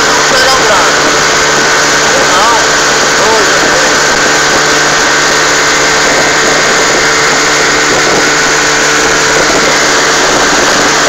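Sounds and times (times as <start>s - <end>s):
outboard motor running: 0.0s - 11.0s
water rushing from wake: 0.0s - 11.0s.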